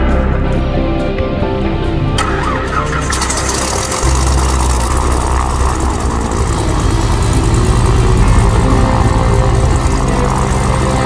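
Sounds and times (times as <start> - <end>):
propeller plane engine taxiing: 2.1 - 11.0.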